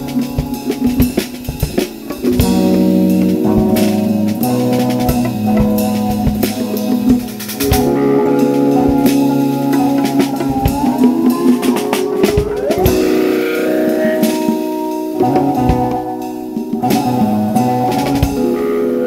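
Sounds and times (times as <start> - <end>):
drum kit: 0.0 - 19.0
funk electric guitar: 0.0 - 19.0.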